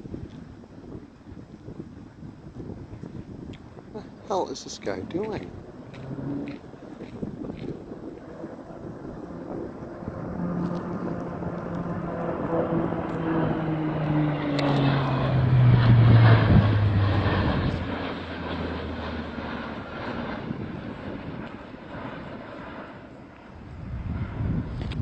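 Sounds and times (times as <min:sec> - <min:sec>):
propeller plane droning overhead: 0:00.0 - 0:25.0.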